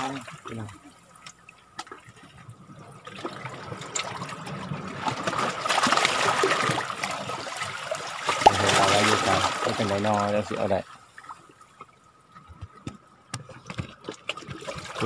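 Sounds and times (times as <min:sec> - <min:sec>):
seawater sloshing among rocks: 0:00.0 - 0:15.0.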